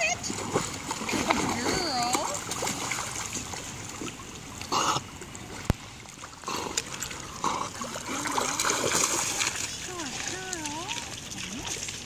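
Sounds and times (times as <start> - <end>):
dog swimming and splashing: 0.0 - 12.0
river current trickling: 0.0 - 12.0.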